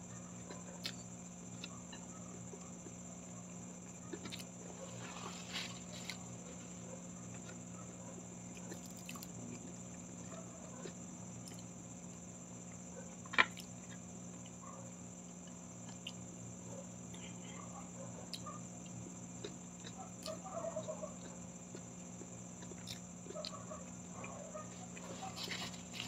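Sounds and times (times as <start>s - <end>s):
faint steady hum: 0.0s - 26.0s
quiet chewing: 0.0s - 26.0s.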